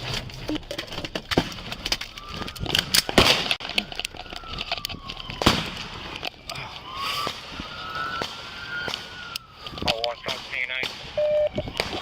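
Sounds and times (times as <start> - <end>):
police siren wailing: 1.7 - 12.0.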